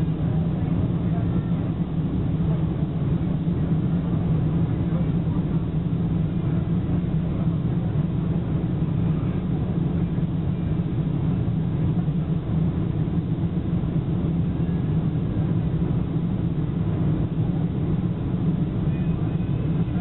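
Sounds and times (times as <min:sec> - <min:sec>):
airplane engine drone in cabin: 0:00.0 - 0:20.0.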